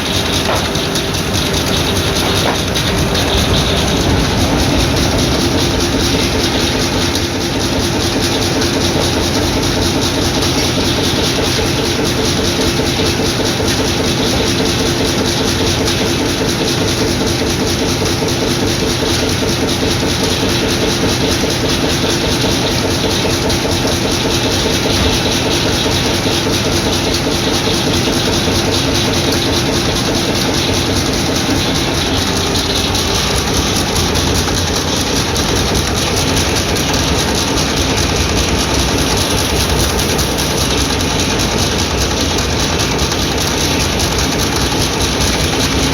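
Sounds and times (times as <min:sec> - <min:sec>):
sawmill and engines running: 0:00.0 - 0:45.9.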